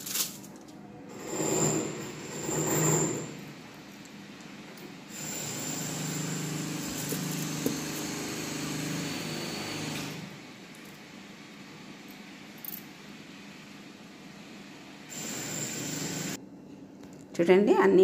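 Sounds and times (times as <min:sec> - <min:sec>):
mechanical hum with hiss: 0:00.0 - 0:18.0.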